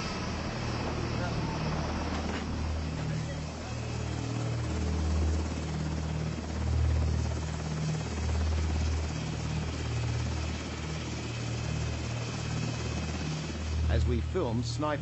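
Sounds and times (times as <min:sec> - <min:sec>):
helicopter rotor and turbine: 0:00.0 - 0:15.0.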